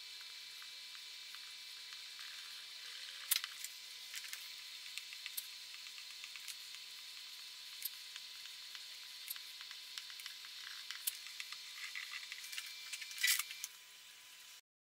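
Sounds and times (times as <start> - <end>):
pyrography pen sizzling on wood: 0.2 - 13.7.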